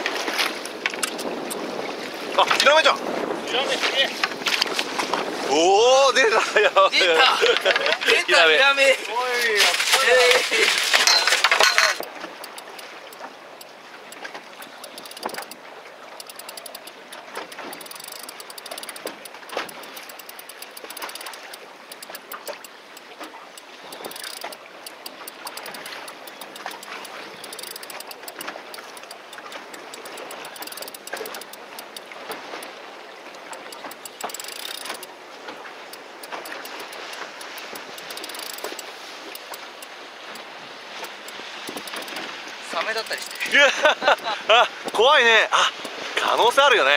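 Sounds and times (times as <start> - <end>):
dense patter of fine clicks: 0.0 - 1.7, 6.2 - 15.6, 16.2 - 46.9
sea noise: 0.0 - 46.9
wind: 0.0 - 46.9.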